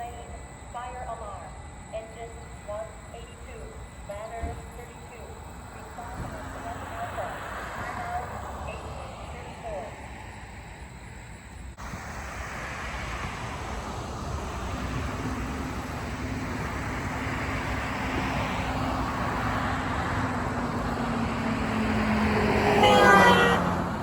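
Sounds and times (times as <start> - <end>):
fire engine approaching: 0.0 - 24.0
road noise: 0.0 - 24.0.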